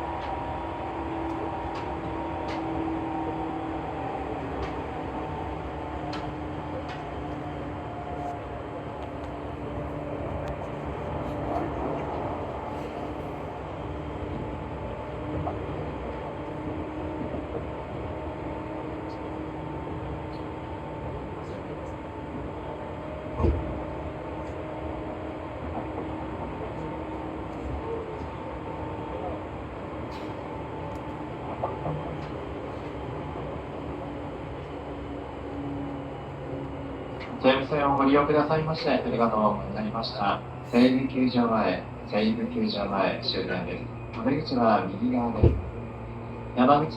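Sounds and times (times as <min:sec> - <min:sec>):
wheels rumbling on rail: 0:00.0 - 0:46.9.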